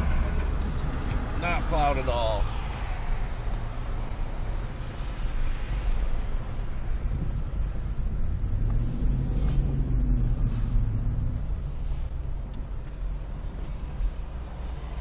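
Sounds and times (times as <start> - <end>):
vehicle cabin rumble: 0.0 - 1.7, 2.5 - 15.0
steady engine hum: 0.0 - 15.0.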